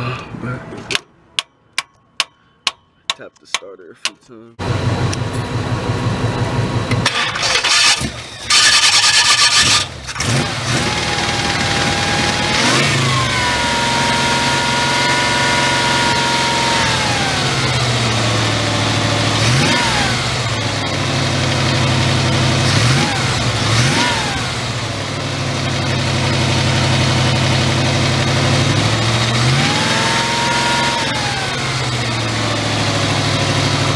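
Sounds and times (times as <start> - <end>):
vee eight engine revving: 4.6 - 33.9.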